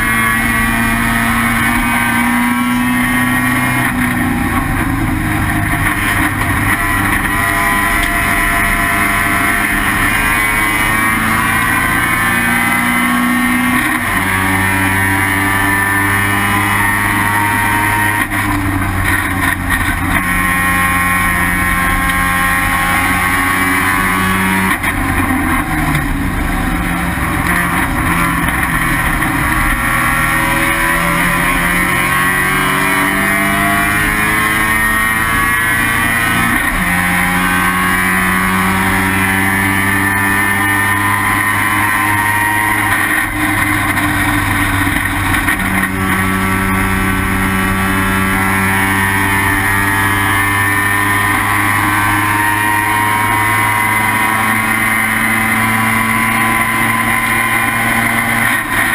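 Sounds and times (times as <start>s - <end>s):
race car rotary engine revving: 0.0s - 58.9s.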